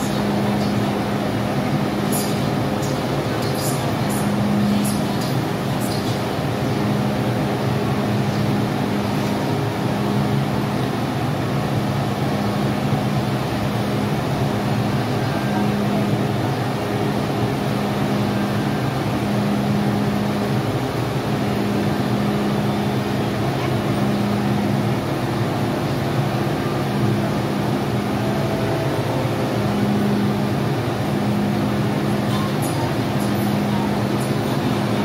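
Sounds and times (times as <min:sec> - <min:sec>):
train equipment hum: 0:00.0 - 0:35.0.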